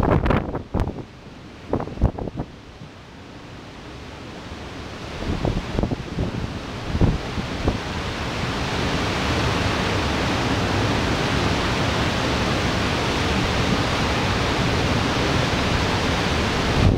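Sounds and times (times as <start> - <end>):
heavy rain downpour: 0.0 - 16.9.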